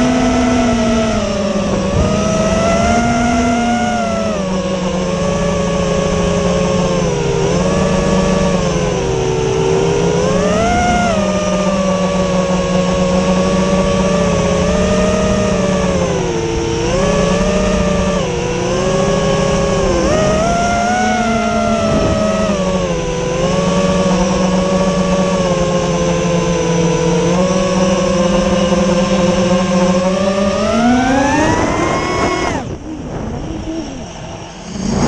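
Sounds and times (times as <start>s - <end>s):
drone motors and propellers whining: 0.0s - 35.0s.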